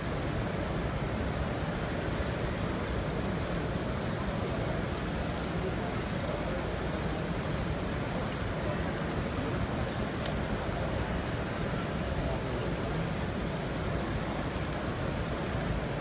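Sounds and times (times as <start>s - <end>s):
hubbub of many voices: 0.0s - 16.0s.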